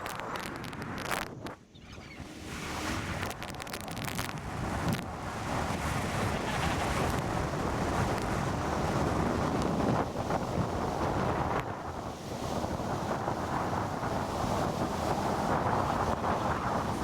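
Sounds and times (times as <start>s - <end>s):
boat and water noise: 0.0s - 17.0s
wind buffeting microphone: 0.0s - 17.0s.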